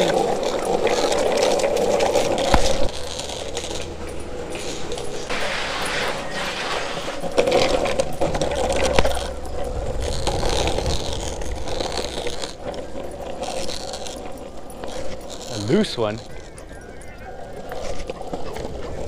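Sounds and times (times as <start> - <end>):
longboard wheels rolling on asphalt: 0.0 - 19.0.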